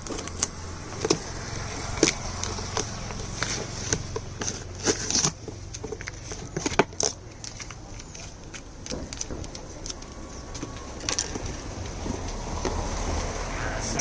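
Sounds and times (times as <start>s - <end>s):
packaging being handled: 0.0s - 12.8s
steady low hum: 0.0s - 14.0s.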